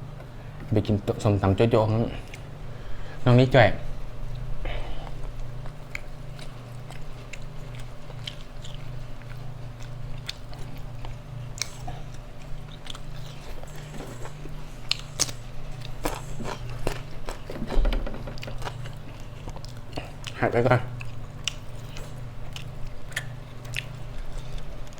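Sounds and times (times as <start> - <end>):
person chewing and crunching food: 0.0 - 3.2, 3.8 - 24.9
steady low hum: 0.0 - 24.9.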